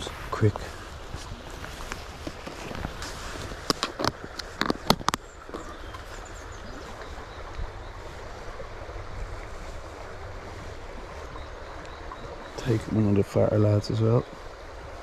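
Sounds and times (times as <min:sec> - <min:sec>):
wind rumble on microphone: 0:00.0 - 0:13.5
stream water flowing: 0:00.0 - 0:15.0.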